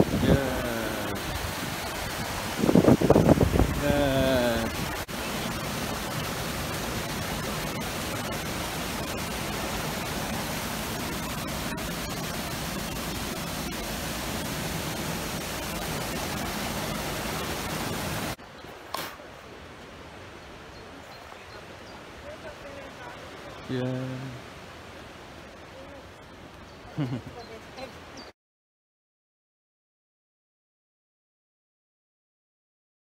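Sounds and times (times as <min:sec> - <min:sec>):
rushing water hiss: 0:00.0 - 0:28.3.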